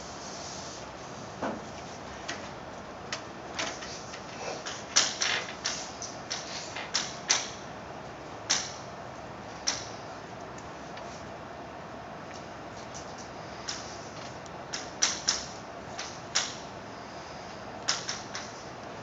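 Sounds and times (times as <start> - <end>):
room hiss: 0.0 - 19.0.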